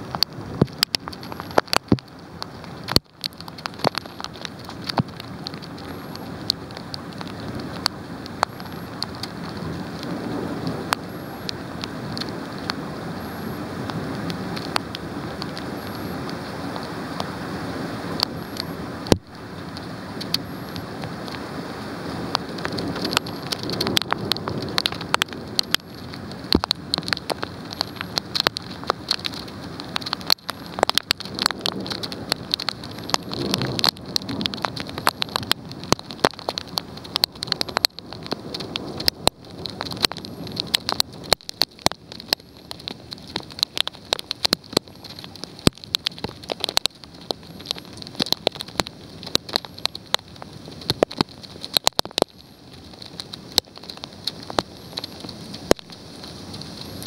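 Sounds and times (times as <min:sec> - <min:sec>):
heavy rain pouring: 0:00.0 - 0:57.0
raindrops tapping a surface: 0:00.0 - 0:57.0.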